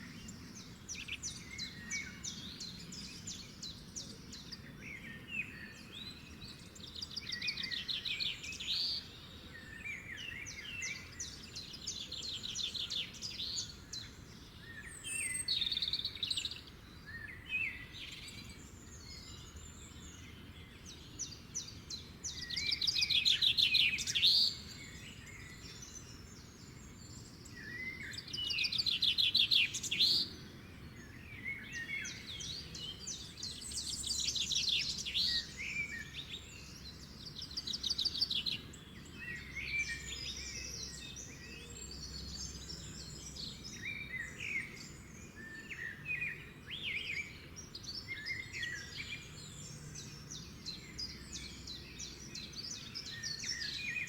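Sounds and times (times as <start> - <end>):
songbirds trilling: 0.0 - 54.0.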